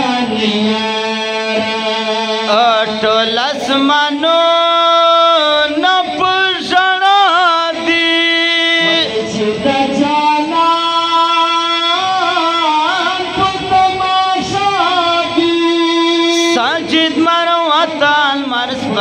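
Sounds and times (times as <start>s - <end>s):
men singing unaccompanied: 0.0s - 19.0s.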